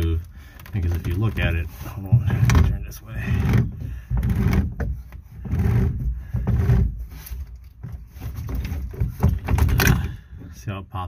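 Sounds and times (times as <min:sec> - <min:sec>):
cable rumbling and rubbing: 0:00.0 - 0:10.7.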